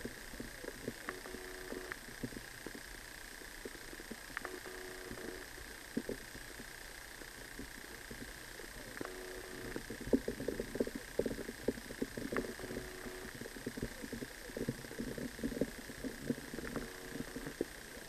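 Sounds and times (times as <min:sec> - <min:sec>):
low humming tones: 0:00.0 - 0:18.0
underwater crackling and clicking: 0:00.0 - 0:18.0.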